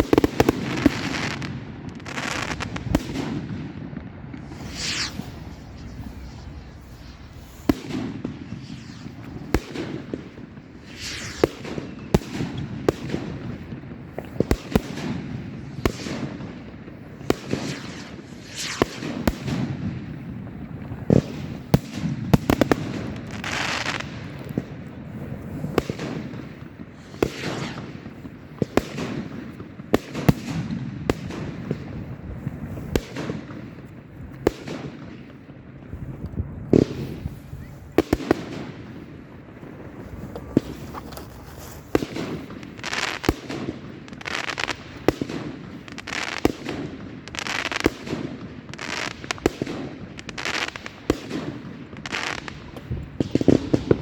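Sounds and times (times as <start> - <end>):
fireworks bangs and crackles: 0.0 - 54.0
fireworks whooshing: 0.0 - 54.0.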